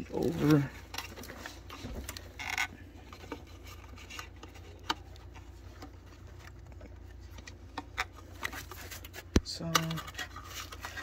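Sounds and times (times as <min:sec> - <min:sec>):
low steady hum: 0:00.0 - 0:11.0
rubber belt rubbing and ticking: 0:00.1 - 0:09.1.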